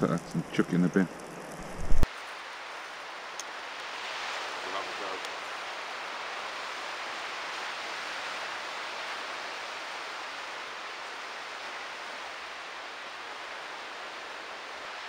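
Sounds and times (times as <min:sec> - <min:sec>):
wind: 0:00.0 - 0:15.0
sea surf rushing: 0:01.6 - 0:15.0.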